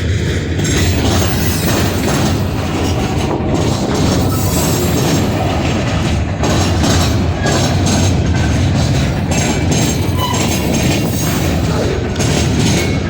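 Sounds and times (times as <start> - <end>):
train wheels clattering on rails: 0.0 - 13.0.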